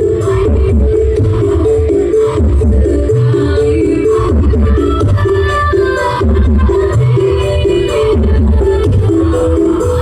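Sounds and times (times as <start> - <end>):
loud music with pulsing bass: 0.0 - 10.0.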